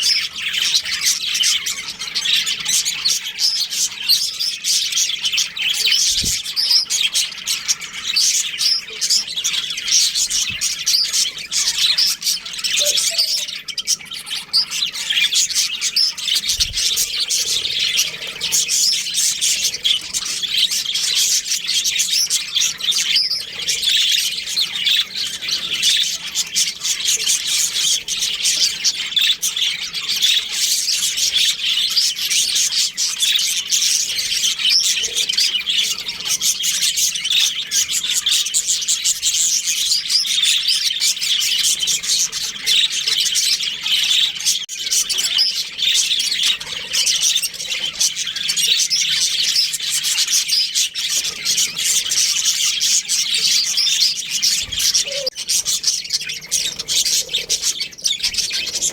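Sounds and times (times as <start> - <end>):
budgerigars chirping and chattering: 0.0 - 58.9.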